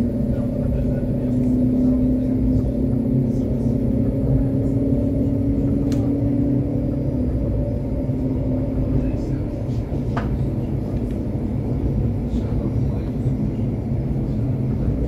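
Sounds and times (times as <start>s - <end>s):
tram motor hum: 0.0s - 15.0s
tram wheels rumbling on track: 0.0s - 15.0s.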